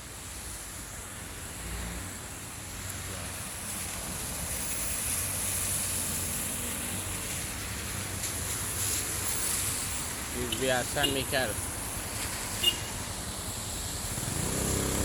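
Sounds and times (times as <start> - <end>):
traffic on wet asphalt: 0.0 - 15.0.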